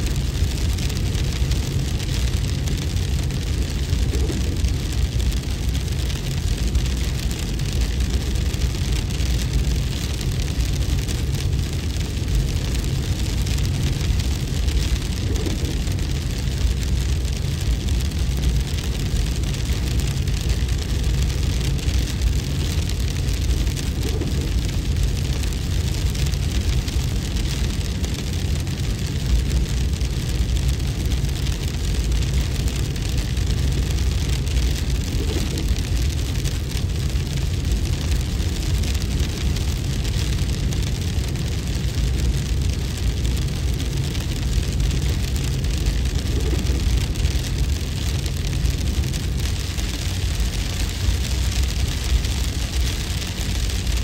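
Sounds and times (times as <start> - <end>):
deep wind rumble: 0.0 - 54.0
hail patter: 0.0 - 54.0.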